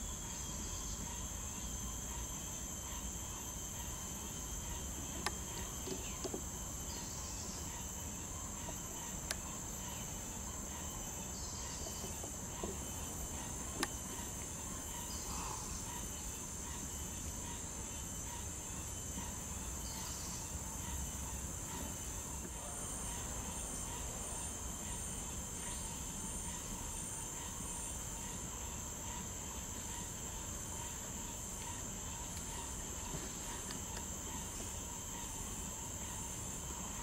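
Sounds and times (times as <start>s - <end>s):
insects droning: 0.0s - 37.0s
short high insect call: 0.0s - 37.0s.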